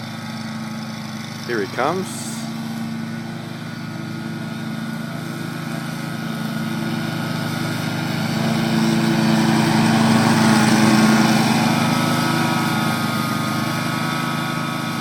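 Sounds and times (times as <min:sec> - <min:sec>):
riding mower engine hum: 0:00.0 - 0:15.0.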